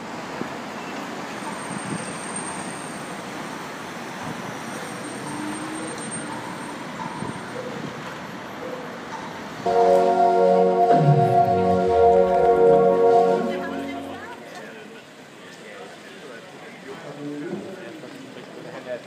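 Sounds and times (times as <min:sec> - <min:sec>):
road traffic hum: 0:00.0 - 0:15.5.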